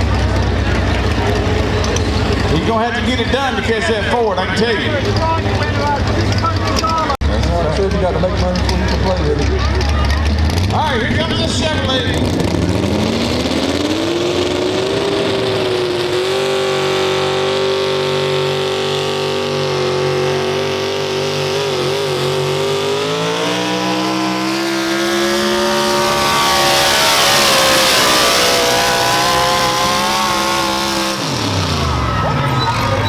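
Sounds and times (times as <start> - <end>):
truck engine at high revs: 0.0 - 33.0.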